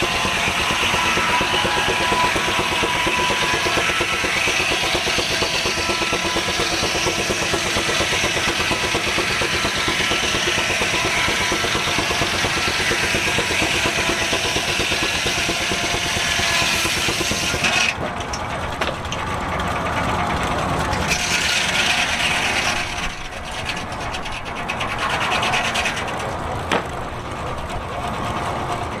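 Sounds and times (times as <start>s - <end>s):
circular saw cutting log: 0.0s - 19.2s, 20.8s - 27.8s
steam engine running: 0.0s - 29.0s.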